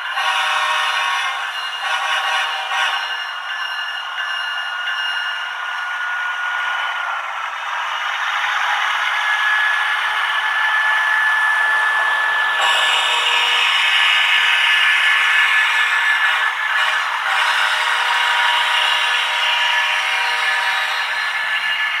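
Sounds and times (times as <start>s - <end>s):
model train whirring on rails: 0.0s - 22.0s.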